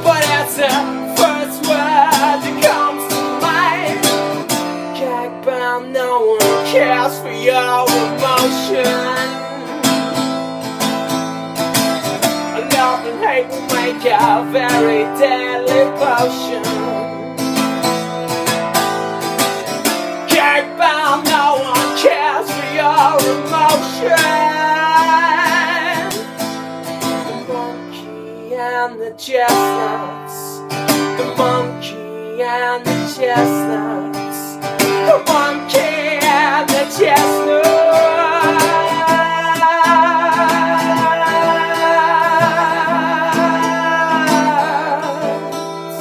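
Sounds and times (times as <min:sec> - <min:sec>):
man singing: 0:00.0 - 0:11.1, 0:11.7 - 0:17.7, 0:19.3 - 0:46.0
acoustic guitar strumming: 0:00.0 - 0:46.0.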